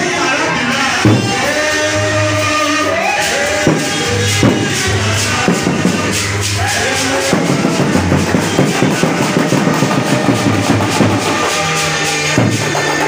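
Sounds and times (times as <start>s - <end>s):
music with busy drum beat: 0.0s - 13.0s.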